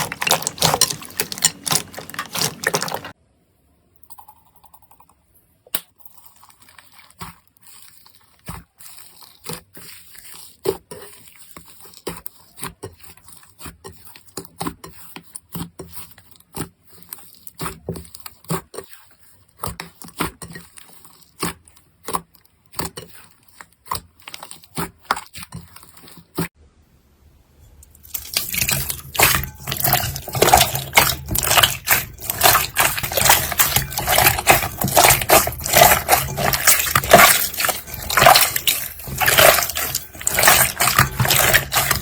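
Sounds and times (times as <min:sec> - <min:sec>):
slime squishing with wet pops: 0:00.0 - 0:03.2, 0:05.7 - 0:26.6, 0:27.9 - 0:42.0.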